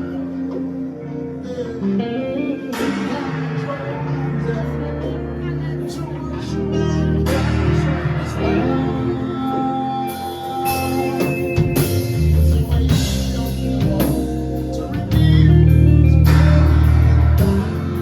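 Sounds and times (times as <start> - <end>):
bass: 0.0 - 18.0
guitar: 0.0 - 18.0
drum kit: 2.7 - 18.0.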